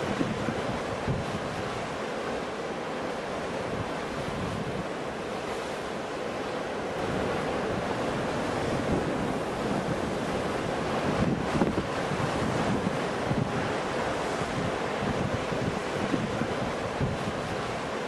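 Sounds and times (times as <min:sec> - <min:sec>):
ocean waves on shore: 0:00.0 - 0:18.0
wind: 0:00.0 - 0:18.0.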